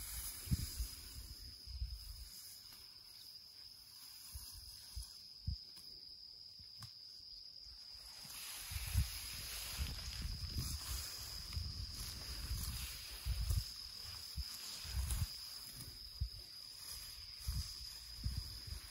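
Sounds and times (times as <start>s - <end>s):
crickets chirring: 0.0s - 18.9s.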